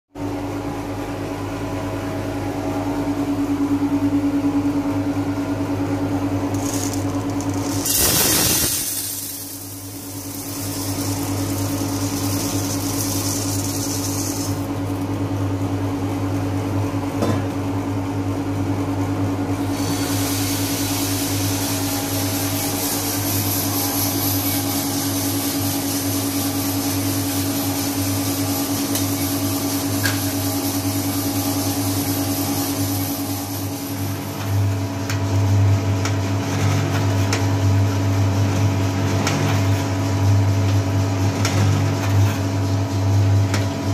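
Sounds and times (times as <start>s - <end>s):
coffee roaster motor hum: 0.2s - 43.9s.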